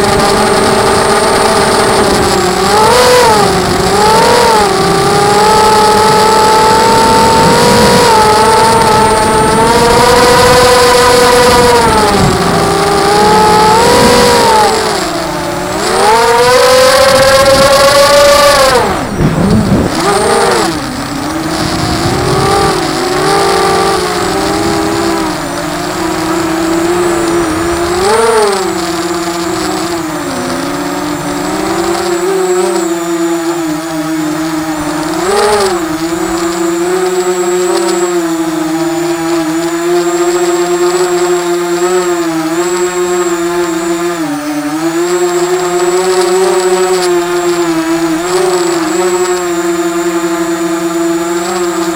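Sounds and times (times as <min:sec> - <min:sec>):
drone motors whining: 0:00.0 - 0:51.9.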